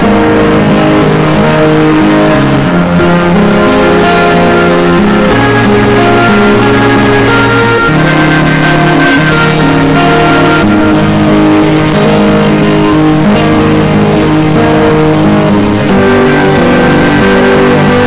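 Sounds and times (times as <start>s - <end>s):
loud guitar music: 0.0s - 18.0s.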